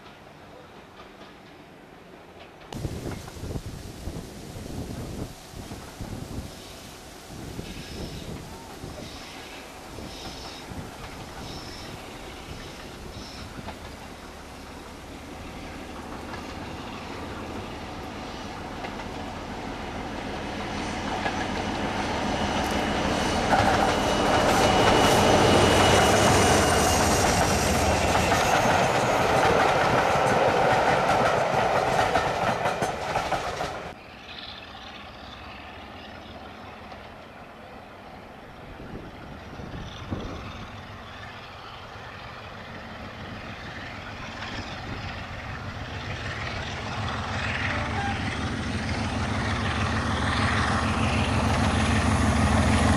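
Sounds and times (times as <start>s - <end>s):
diesel train passing: 0.0s - 52.9s.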